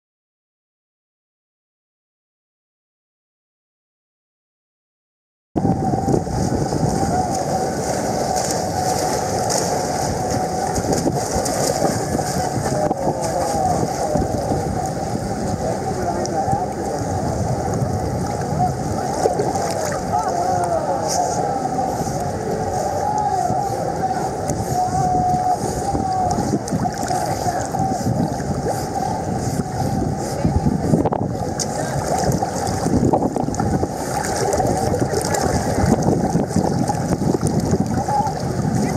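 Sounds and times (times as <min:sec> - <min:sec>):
water sloshing and churning: 0:05.6 - 0:38.9
wind buffeting microphone: 0:05.6 - 0:38.9.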